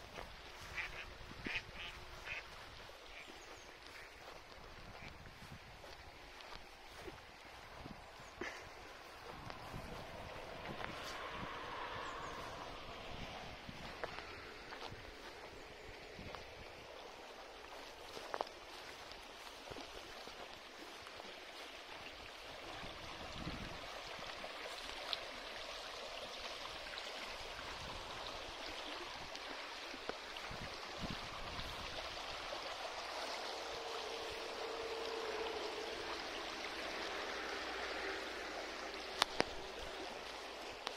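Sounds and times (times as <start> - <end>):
stream rippling over stones: 0.0 - 40.9.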